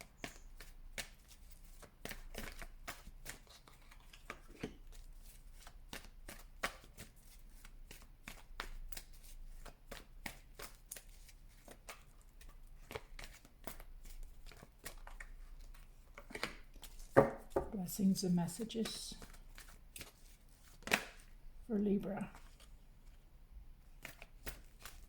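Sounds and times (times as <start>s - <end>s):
cards being shuffled: 0.2s - 17.6s, 18.6s - 21.3s, 22.2s - 23.2s, 23.9s - 25.0s.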